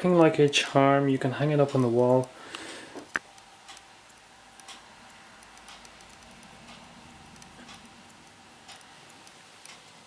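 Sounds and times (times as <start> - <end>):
wall clock ticking: 0.0 - 10.0.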